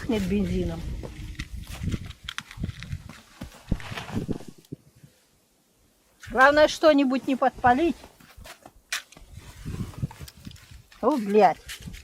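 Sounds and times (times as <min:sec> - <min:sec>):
low muffled rustle: 0:00.0 - 0:05.3, 0:06.0 - 0:12.0.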